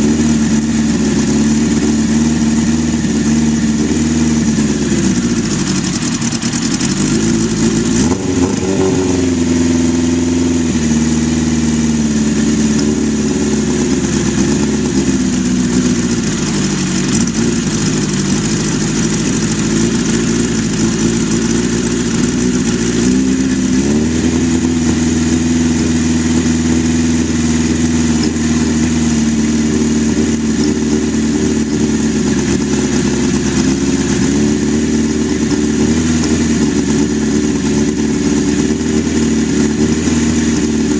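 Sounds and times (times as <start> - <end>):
motorcycle engine warming up: 0.0 - 40.9.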